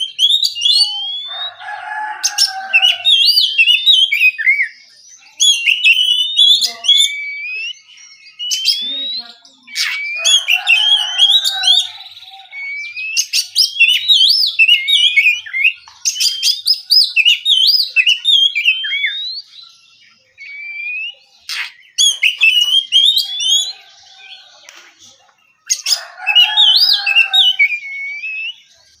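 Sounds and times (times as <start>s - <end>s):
bird singing whistles: 0.0s - 1.5s, 2.8s - 4.8s, 5.4s - 19.6s, 20.4s - 23.8s, 26.4s - 28.7s.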